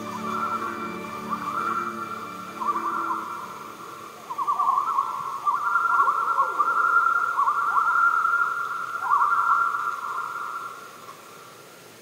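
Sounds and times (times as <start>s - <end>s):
low gliding loon call: 0.0s - 10.8s
loons calling in tremolo chorus: 0.0s - 11.6s.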